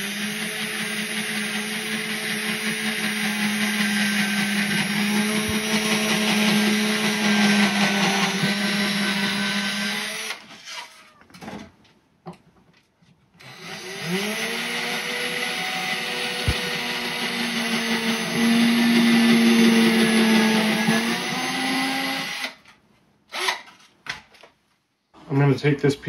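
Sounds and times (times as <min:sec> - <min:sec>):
cordless drill boring into wood: 0:00.0 - 0:11.0, 0:13.4 - 0:22.7, 0:23.3 - 0:23.8.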